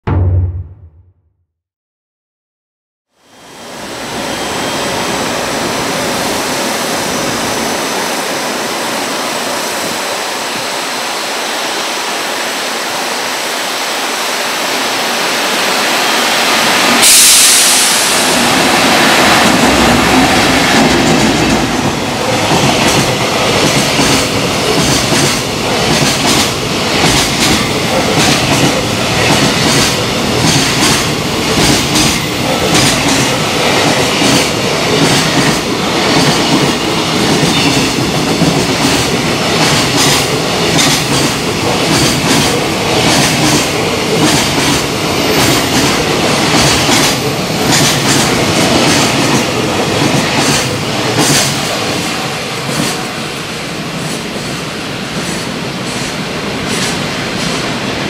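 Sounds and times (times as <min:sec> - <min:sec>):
freight train rushing past: 0:03.2 - 0:58.0.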